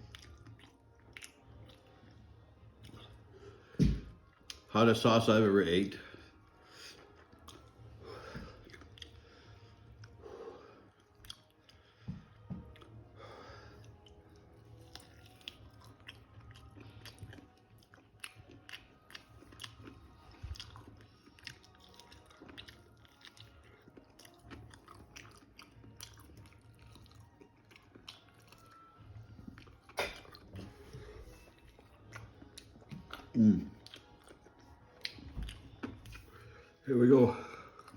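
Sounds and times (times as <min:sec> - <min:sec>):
chewing and crunching: 0:00.0 - 0:04.7, 0:05.3 - 0:37.9.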